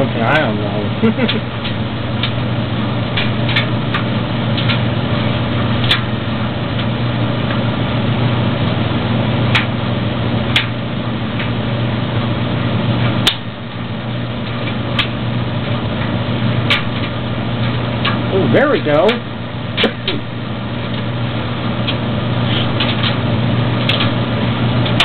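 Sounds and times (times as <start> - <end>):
dryer humming: 0.0 - 25.0.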